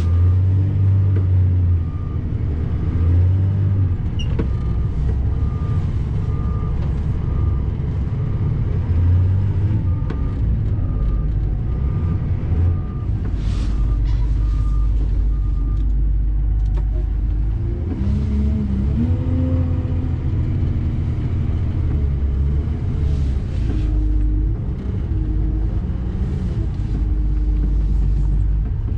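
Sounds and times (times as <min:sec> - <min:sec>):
truck engine running: 0:00.0 - 0:28.9.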